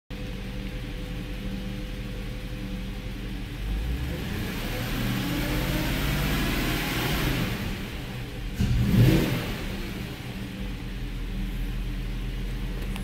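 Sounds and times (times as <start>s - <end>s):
car engine idling and revving: 0.1s - 13.0s.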